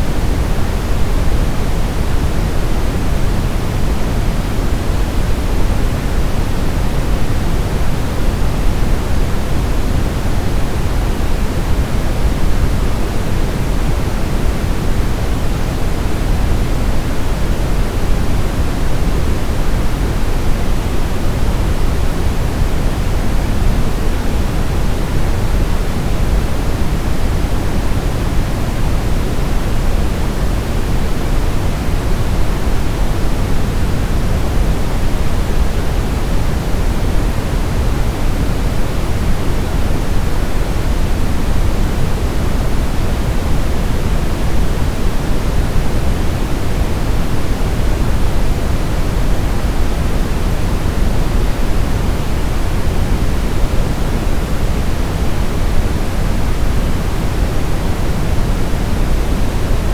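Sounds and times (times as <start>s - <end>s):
deep soft white noise: 0.0s - 59.9s.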